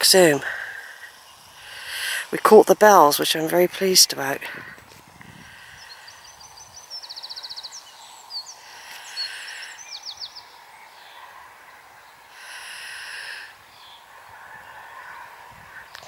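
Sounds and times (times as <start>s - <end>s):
faint outdoor hush: 0.0s - 16.0s
songbird singing: 0.0s - 16.0s.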